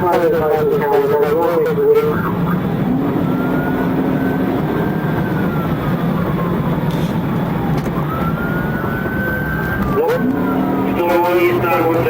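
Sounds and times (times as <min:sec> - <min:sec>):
siren wailing: 0:00.0 - 0:12.0
vehicle road and engine noise: 0:00.0 - 0:12.0.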